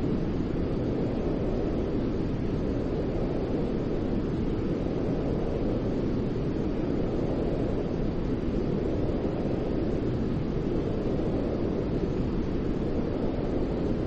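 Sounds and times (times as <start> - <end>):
white noise rushing hiss: 0.0 - 14.0.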